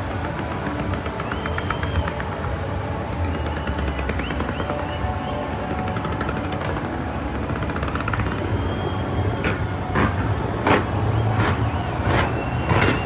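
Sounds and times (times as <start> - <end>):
fireworks bangs: 0.0 - 13.0
fireworks rumbling: 0.0 - 13.0.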